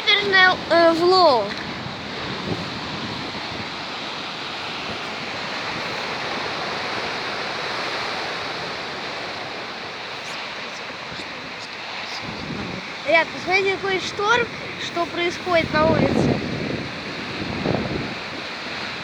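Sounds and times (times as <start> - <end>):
sea surf breaking on shore: 0.0 - 19.0
wind buffeting microphone: 0.0 - 19.0.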